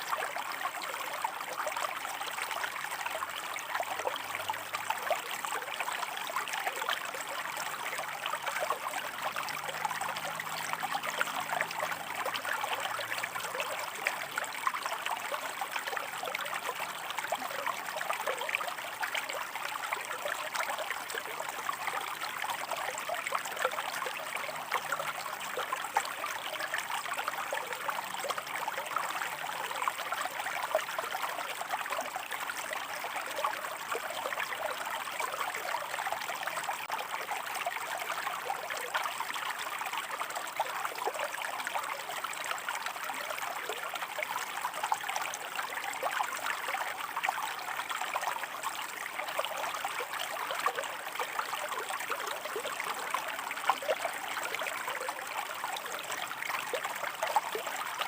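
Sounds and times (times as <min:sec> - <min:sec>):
river water running over rocks: 0:00.0 - 0:58.0.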